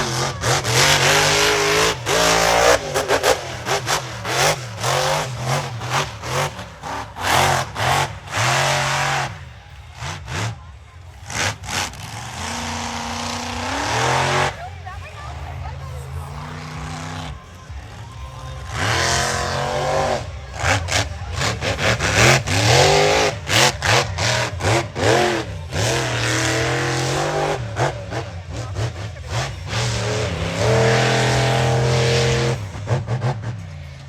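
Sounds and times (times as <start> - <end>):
truck engine revving hard: 0.0 - 34.0.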